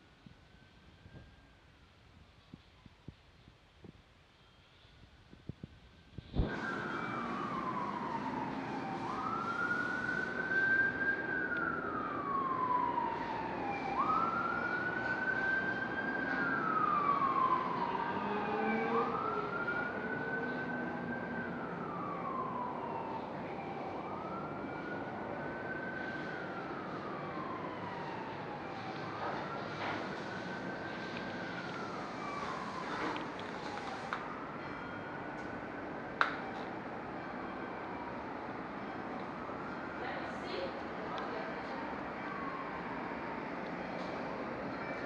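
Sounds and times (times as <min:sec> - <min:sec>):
emergency vehicle siren wailing: 0:06.4 - 0:45.0.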